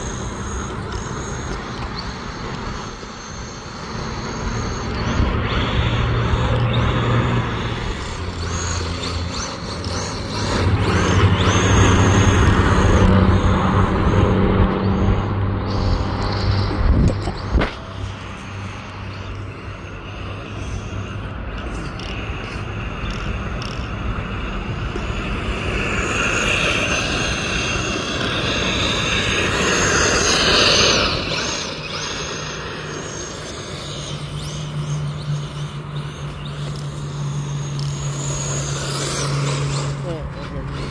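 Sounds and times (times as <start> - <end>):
rc car motor whine: 0.0 - 40.9.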